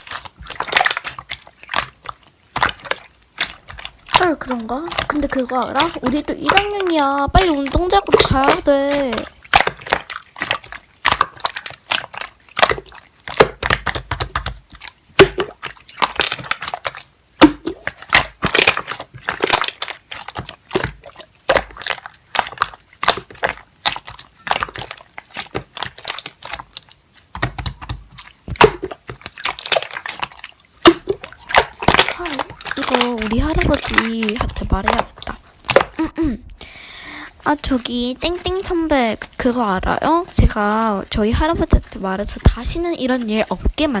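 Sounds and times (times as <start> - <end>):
slime squished by hand: 0.0 - 44.0.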